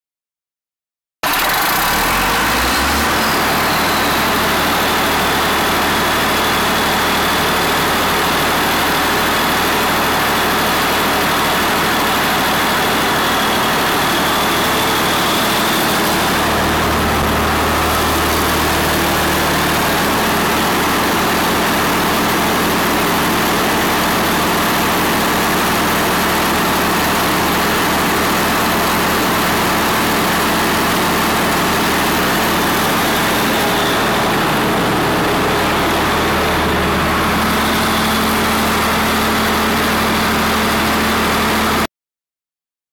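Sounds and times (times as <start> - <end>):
diesel generator engine running: 1.2 - 41.9.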